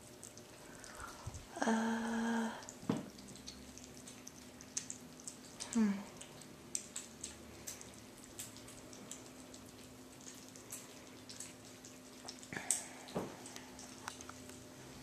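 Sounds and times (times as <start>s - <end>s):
kittens chewing wet food: 0.0s - 15.0s.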